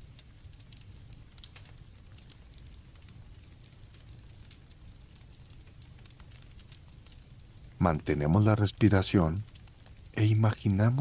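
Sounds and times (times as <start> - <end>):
campfire crackling: 0.0 - 11.0
crickets chirping: 0.0 - 11.0.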